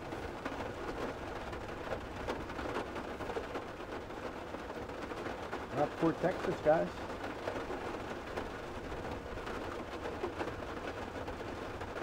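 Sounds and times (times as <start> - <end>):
light rain pattering on roof: 0.0 - 12.0.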